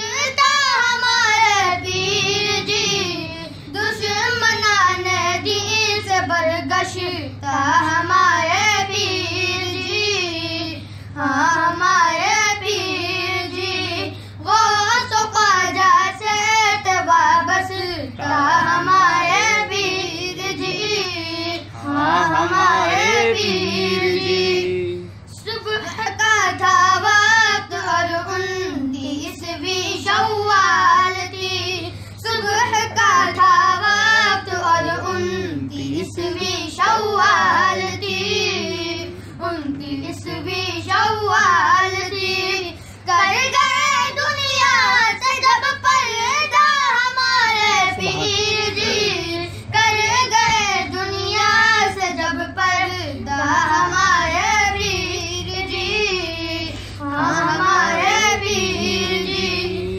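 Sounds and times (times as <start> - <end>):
person singing devotional song: 0.0 - 59.9.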